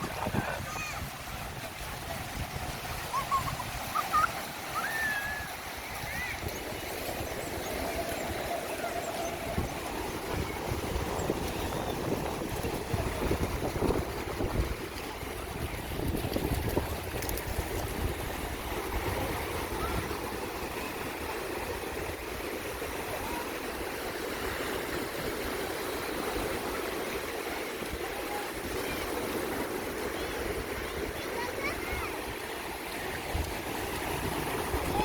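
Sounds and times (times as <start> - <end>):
sea waves washing ashore: 0.0 - 35.0.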